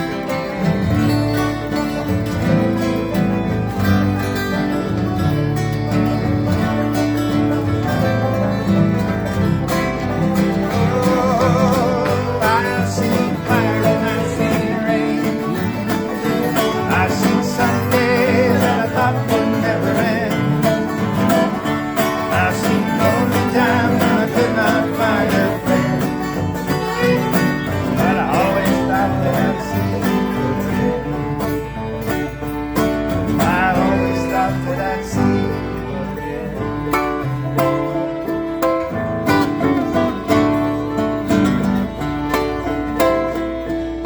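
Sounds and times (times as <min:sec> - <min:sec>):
acoustic country band music: 0:00.0 - 0:44.0.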